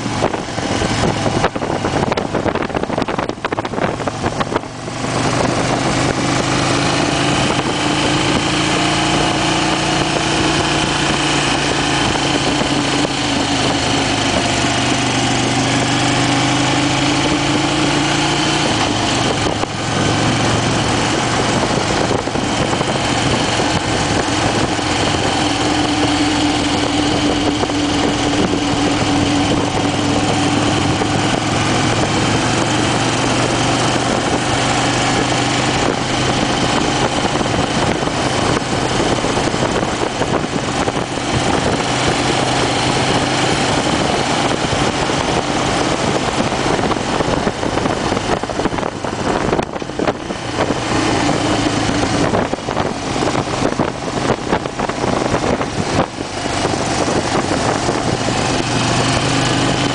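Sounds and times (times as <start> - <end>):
motorcycle engine running: 0.0 - 59.9
rush of riding wind: 0.0 - 59.9.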